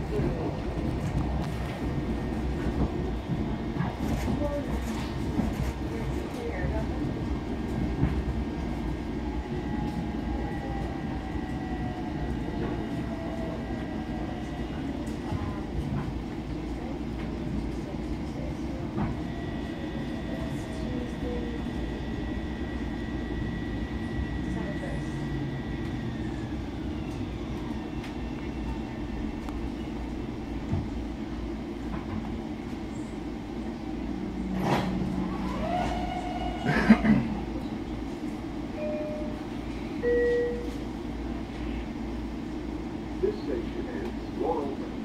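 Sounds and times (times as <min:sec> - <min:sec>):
train interior rumble: 0:00.0 - 0:45.0.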